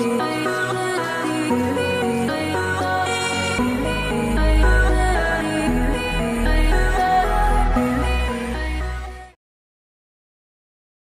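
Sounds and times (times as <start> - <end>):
electronic music with synth melody: 0.0 - 9.4.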